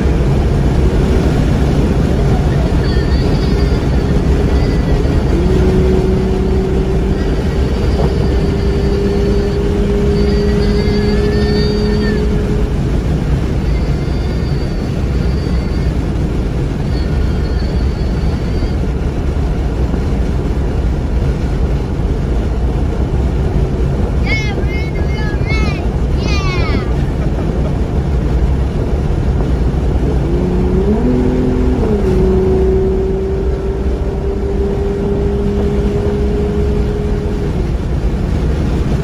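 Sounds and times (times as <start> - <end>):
car engine drone: 0.0 - 39.0
wind noise: 0.0 - 39.0.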